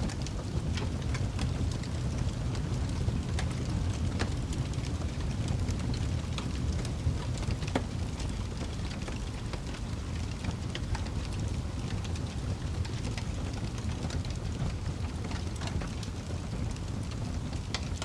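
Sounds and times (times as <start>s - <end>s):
fire pops and snaps: 0.0s - 18.0s
wood fire rumbling: 0.0s - 18.0s.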